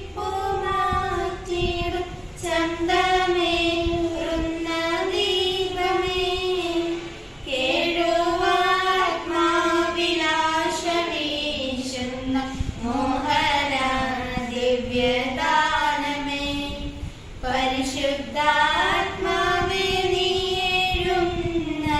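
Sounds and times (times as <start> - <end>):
girls singing: 0.0 - 21.9.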